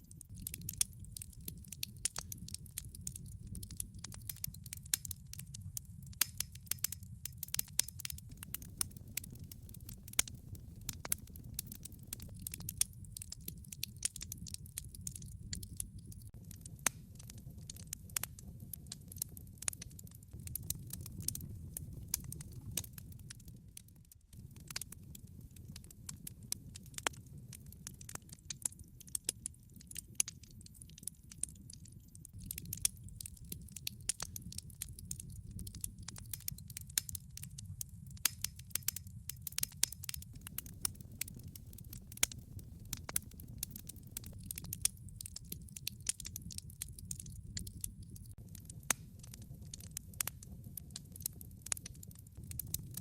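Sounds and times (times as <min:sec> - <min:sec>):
low rumble of burning: 0:00.0 - 0:53.0
wood fire crackling and popping: 0:00.0 - 0:53.0.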